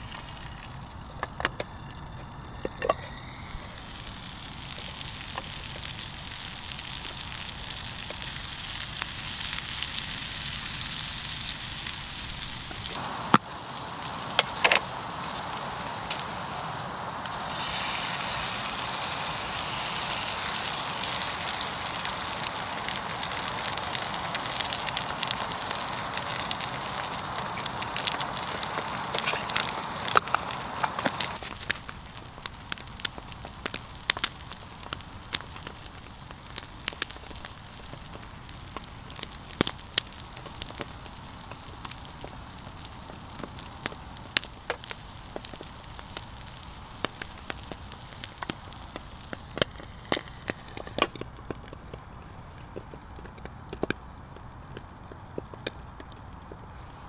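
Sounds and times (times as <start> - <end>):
fat popping and crackling: 0.0 - 13.5, 14.1 - 16.3, 20.0 - 57.0
food sizzling: 0.0 - 57.0.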